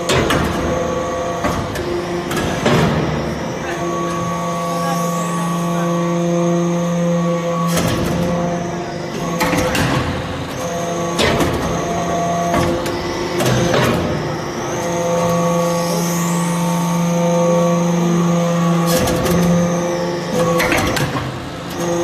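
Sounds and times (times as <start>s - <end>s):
press machine hum: 0.0s - 22.0s.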